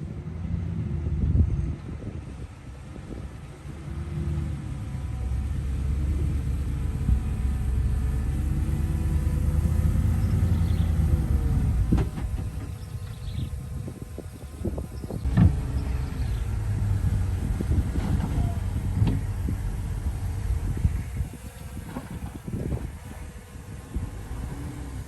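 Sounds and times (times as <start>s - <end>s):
heavy diesel engine under load: 0.0s - 25.0s.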